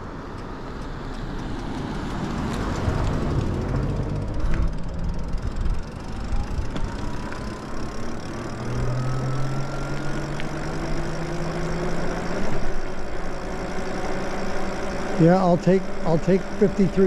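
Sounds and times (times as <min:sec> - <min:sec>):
wind and road noise: 0:00.0 - 0:17.0
electric motor whine: 0:02.2 - 0:17.0.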